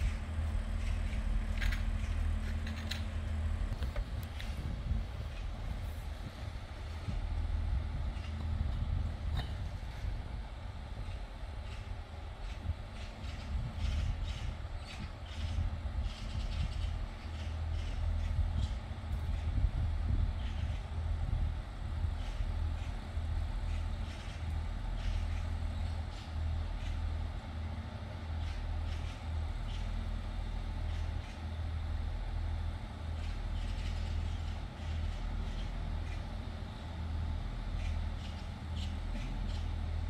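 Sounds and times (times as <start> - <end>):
diesel engine drone: 0.0 - 40.0.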